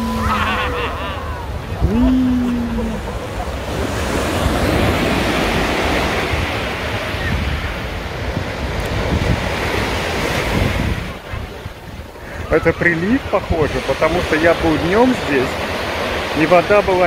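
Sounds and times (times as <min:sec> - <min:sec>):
wind on microphone: 0:00.0 - 0:14.8
waves breaking on sand: 0:00.0 - 0:17.0.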